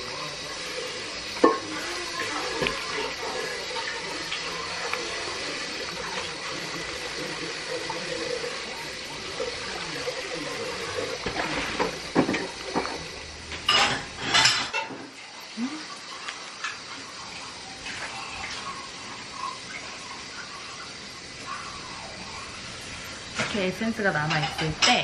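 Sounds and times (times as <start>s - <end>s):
water running: 0.0s - 25.0s.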